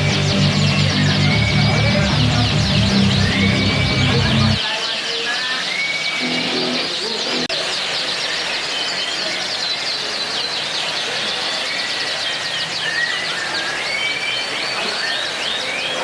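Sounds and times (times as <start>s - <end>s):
canaries singing: 0.0s - 16.0s.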